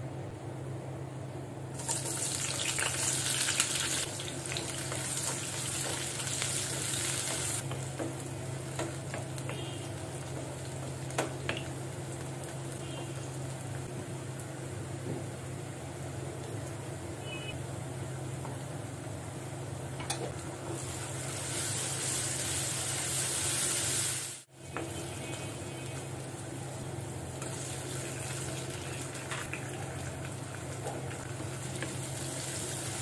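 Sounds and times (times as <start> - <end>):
onions sizzling in hot oil: 1.8 - 33.0.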